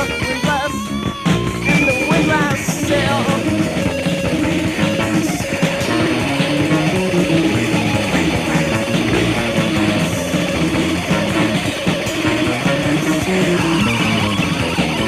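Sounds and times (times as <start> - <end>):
electric guitar: 0.0 - 15.0
instrumental rock music: 0.0 - 15.0.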